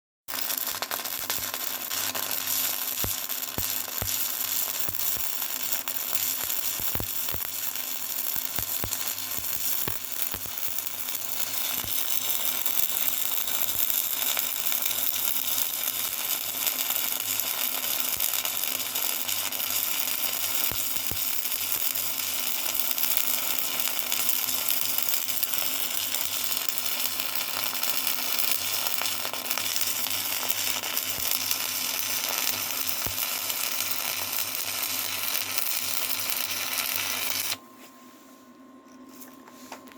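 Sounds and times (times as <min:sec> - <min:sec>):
sharp welding pops: 0:00.3 - 0:37.6
welding arc crackling: 0:00.3 - 0:37.6.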